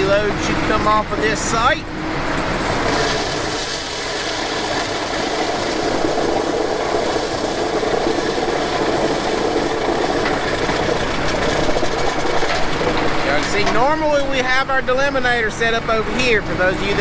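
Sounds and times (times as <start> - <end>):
diesel machinery running: 0.0 - 17.0.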